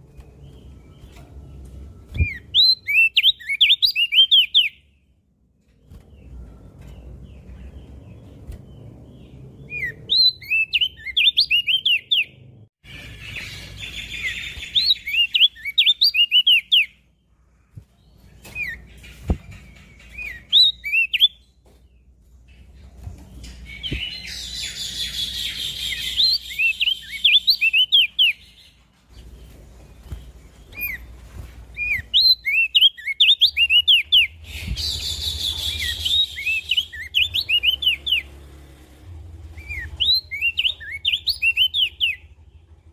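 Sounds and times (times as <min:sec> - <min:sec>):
bird high chirping song: 0:00.0 - 0:05.2, 0:05.8 - 0:42.9.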